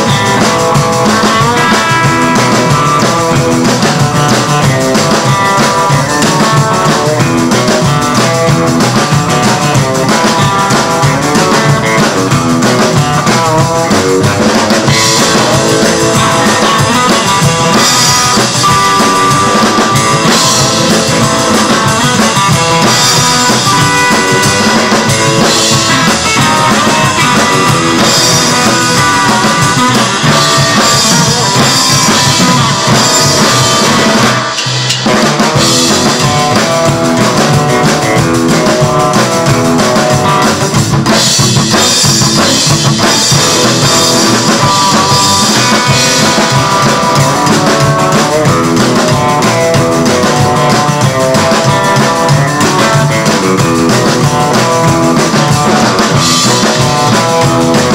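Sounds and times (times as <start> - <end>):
live rockabilly band: 0.0 - 57.9.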